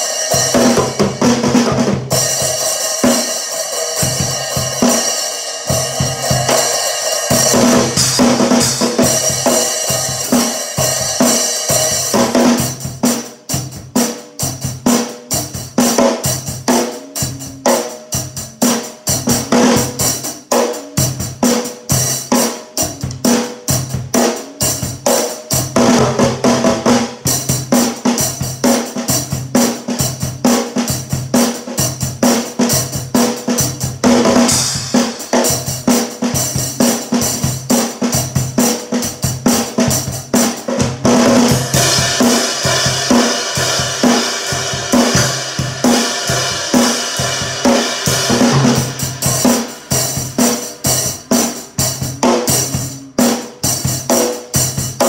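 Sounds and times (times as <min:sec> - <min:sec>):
drum kit groove: 0:00.0 - 0:55.0.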